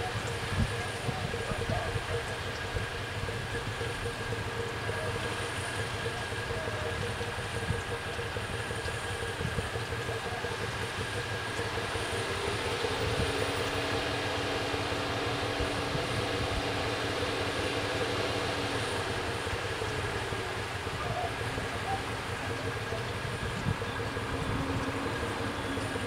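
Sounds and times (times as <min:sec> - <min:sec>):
diesel railcar running: 0:00.0 - 0:26.0.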